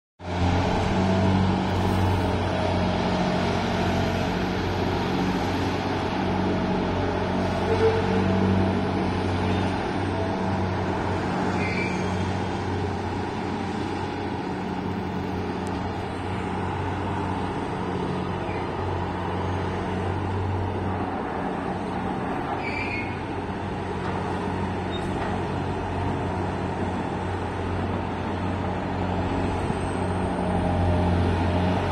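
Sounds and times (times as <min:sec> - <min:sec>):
crane diesel engine droning: 0:00.2 - 0:31.9.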